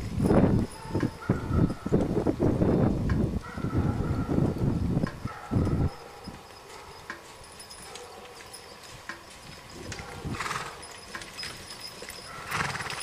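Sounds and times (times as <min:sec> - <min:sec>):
hooves on leaf-covered ground: 0:00.0 - 0:13.0.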